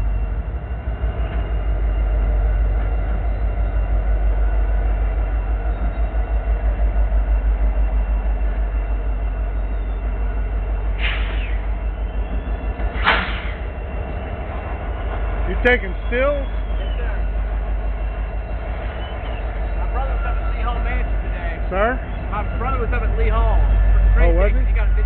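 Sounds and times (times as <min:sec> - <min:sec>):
locomotive engine drone: 0:00.0 - 0:25.0.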